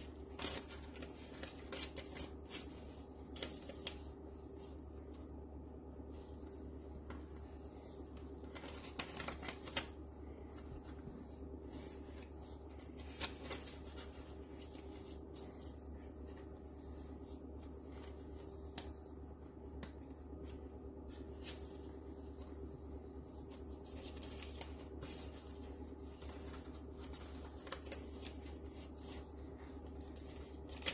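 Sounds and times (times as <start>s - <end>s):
paper pages rustling: 0.0s - 5.4s, 6.0s - 30.9s
steady low hum: 0.0s - 30.9s.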